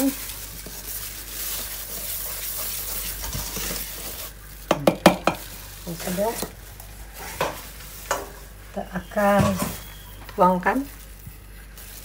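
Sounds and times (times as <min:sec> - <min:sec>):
whisk swishing flour in bowl: 0:00.0 - 0:09.7, 0:10.3 - 0:12.0.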